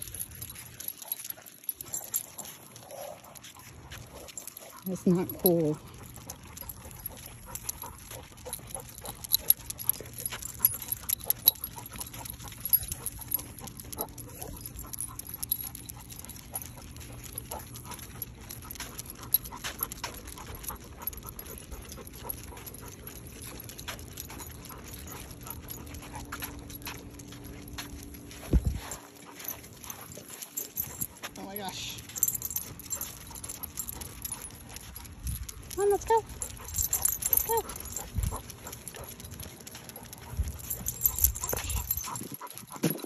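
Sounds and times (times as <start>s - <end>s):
steady low hum: 0.0s - 42.8s
dog claws and leash gear clicking: 0.0s - 43.0s.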